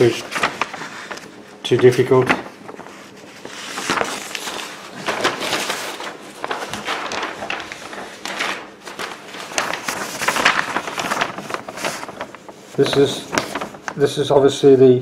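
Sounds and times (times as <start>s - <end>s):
paper rustling and crinkling: 0.0s - 14.7s.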